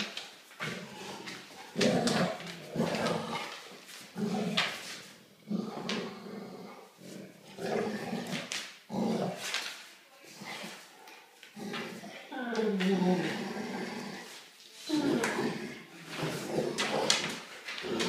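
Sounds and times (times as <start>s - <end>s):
dogs growling: 0.0s - 9.5s, 10.3s - 18.0s.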